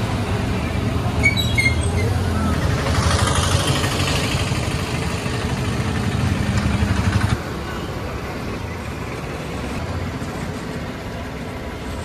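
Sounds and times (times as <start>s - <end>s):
low rumble of roadside traffic: 0.0s - 12.0s.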